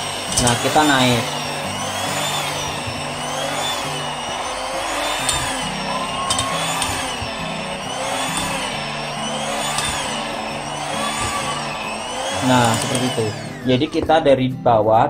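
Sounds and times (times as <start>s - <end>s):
mixer ticking: 0.0s - 14.3s
electric hand mixer kneading dough: 0.0s - 14.4s.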